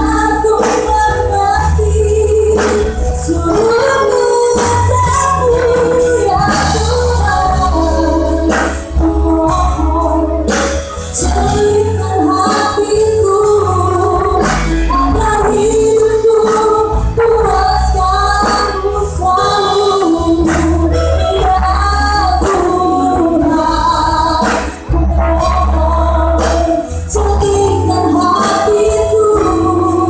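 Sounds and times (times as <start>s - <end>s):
band accompaniment: 0.0s - 30.0s
person singing: 0.0s - 30.0s.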